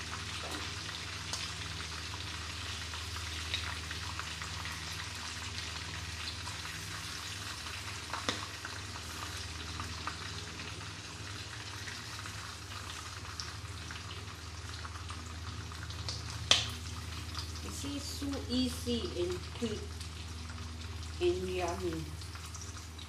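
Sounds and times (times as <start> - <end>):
shrimp sizzling in hot oil: 0.0 - 23.0.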